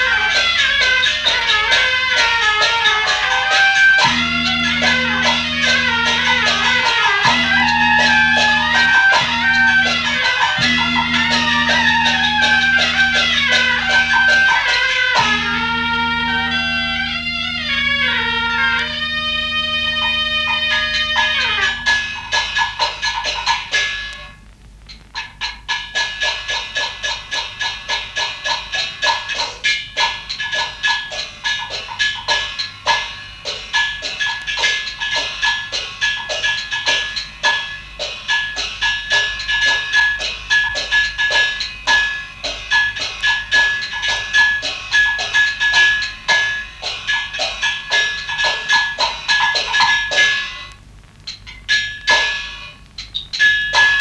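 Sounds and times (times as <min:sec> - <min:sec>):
high held tone: 0:00.0 - 0:54.0
rapid struck percussion: 0:00.0 - 0:54.0.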